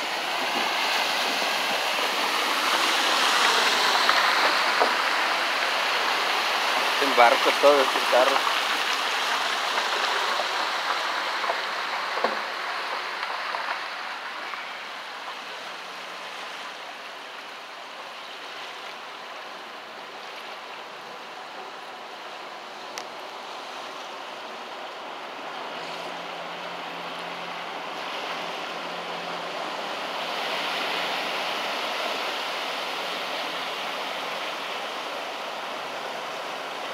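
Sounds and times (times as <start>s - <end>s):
floodwater rushing: 0.0s - 36.9s.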